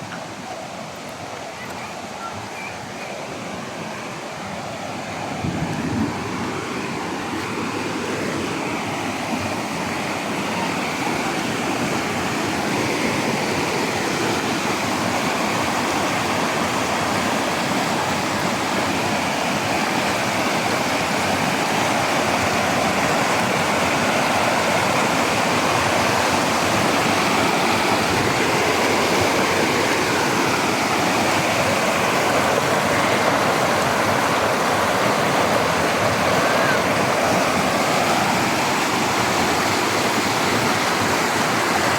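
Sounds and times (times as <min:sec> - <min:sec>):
stream water rushing over rocks: 0:00.0 - 0:41.9.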